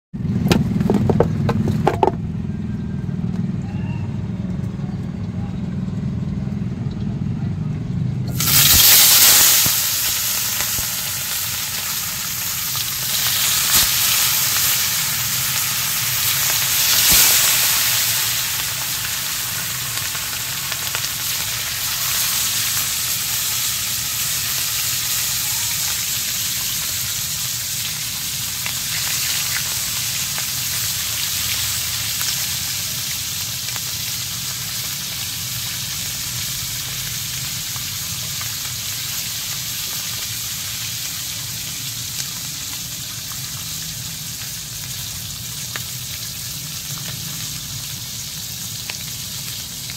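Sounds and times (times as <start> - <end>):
fish sizzling in hot oil: 8.3 - 49.9.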